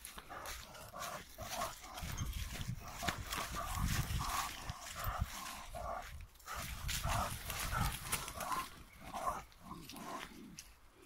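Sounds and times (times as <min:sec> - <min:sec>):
footsteps: 0:00.0 - 0:10.8.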